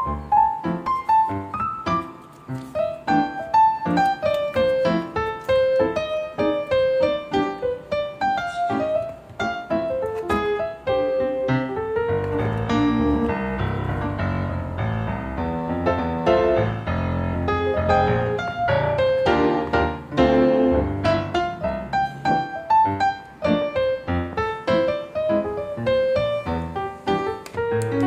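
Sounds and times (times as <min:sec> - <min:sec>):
piano melody: 0:00.0 - 0:28.0.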